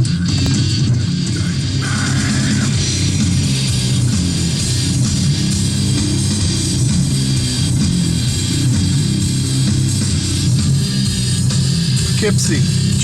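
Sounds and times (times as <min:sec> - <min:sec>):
bass guitar: 0:00.0 - 0:13.0
distorted electric guitar: 0:00.0 - 0:13.0.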